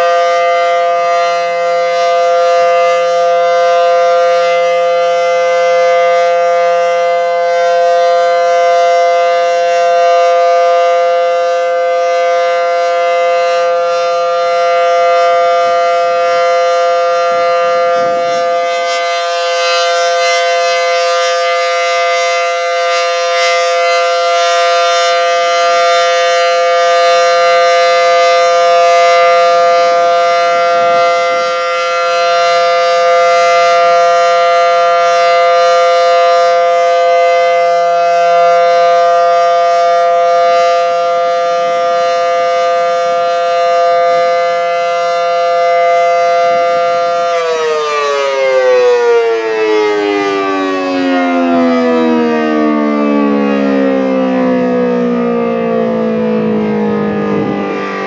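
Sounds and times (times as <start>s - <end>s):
dual-tone warning siren: 0.0s - 58.0s.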